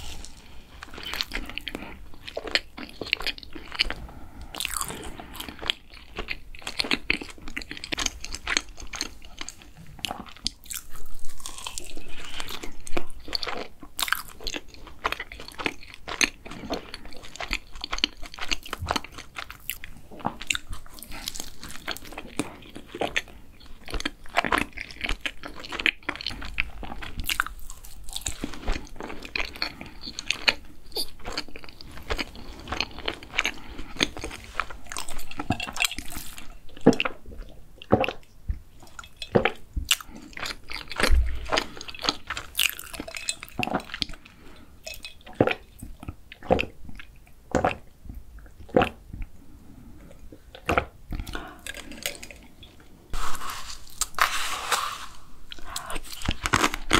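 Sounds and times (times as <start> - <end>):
chewing doughnut crunches: 0.0 - 49.4, 55.5 - 56.9.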